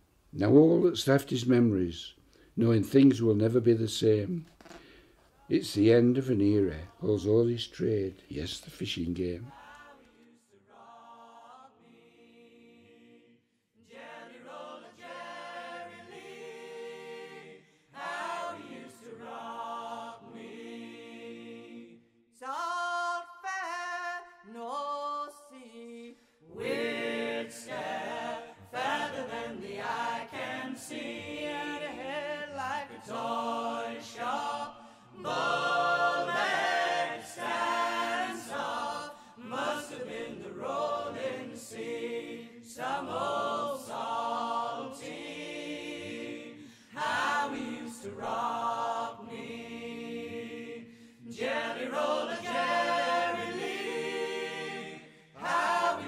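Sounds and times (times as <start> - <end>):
voices singing in harmony: 9.4 - 56.0.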